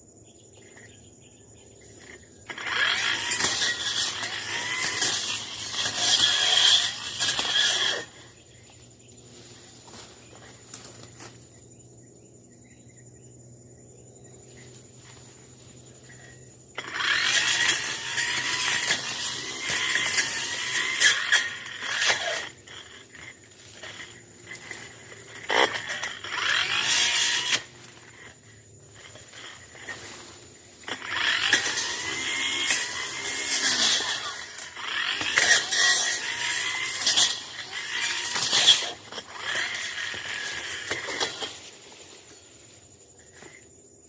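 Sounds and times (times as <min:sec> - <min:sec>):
brush cutter cutting undergrowth: 0:01.8 - 0:11.6, 0:14.3 - 0:43.8.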